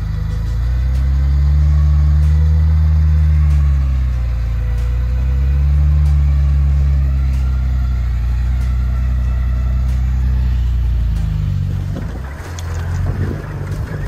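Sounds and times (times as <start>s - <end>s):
truck engine rumbling at low revs: 0.0s - 14.0s.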